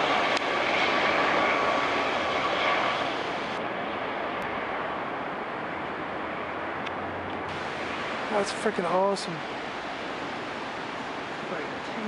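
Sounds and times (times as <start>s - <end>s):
faint high turbine whine: 0.0s - 12.0s
helicopter engine and rotor noise: 0.0s - 12.0s.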